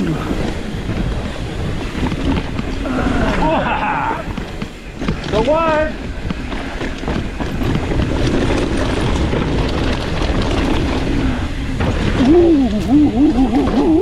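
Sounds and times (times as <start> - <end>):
bike rattling over rocks: 0.0 - 14.0
wind rushing over microphone: 0.0 - 14.0.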